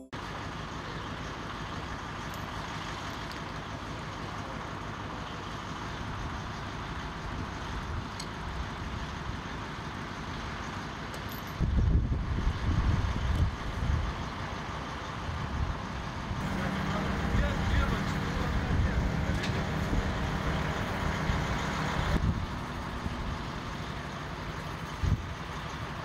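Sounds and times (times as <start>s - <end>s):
heavy vehicle engine running: 0.0s - 26.0s.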